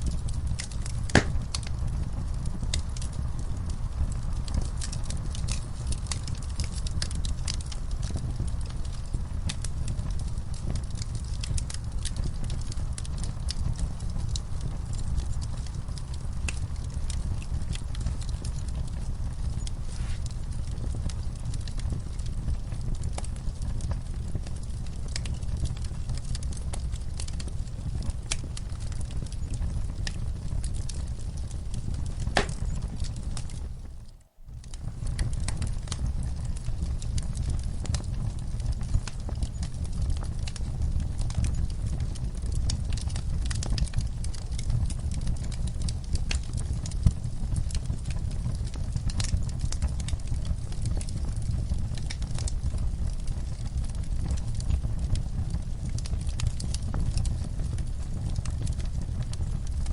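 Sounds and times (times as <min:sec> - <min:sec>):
low rumble of burning: 0:00.0 - 0:59.9
wood fire crackling and popping: 0:00.0 - 0:59.9.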